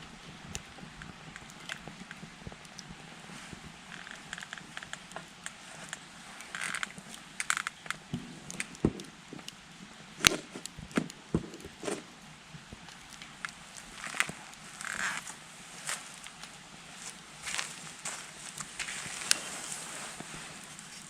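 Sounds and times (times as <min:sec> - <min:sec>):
campfire crackling and popping: 0:00.0 - 0:21.0
fire hissing: 0:00.4 - 0:21.0.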